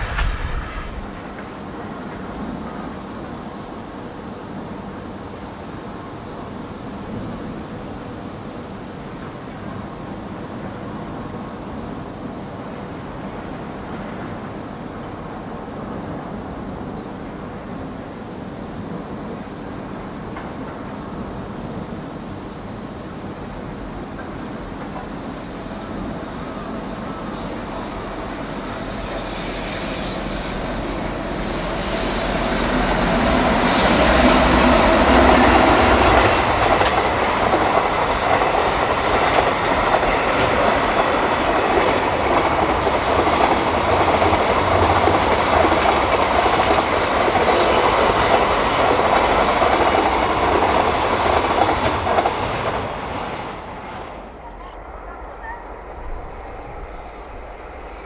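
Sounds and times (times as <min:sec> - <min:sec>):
electric locomotive passing: 0:00.0 - 0:58.0
train wagons running on rails: 0:00.0 - 0:58.0.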